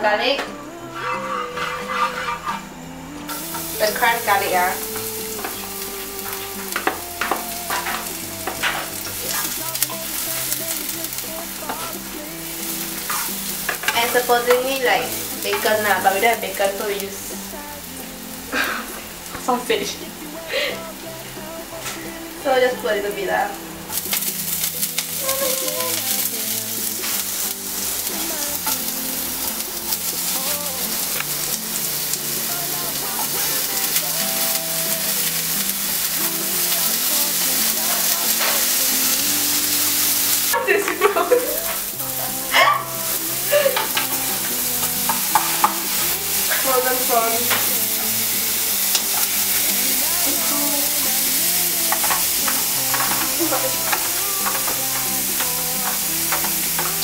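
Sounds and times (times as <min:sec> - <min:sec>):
food sizzling in a pan: 0:00.0 - 0:57.0
spatula scraping a pan: 0:00.8 - 0:19.2, 0:23.9 - 0:57.0.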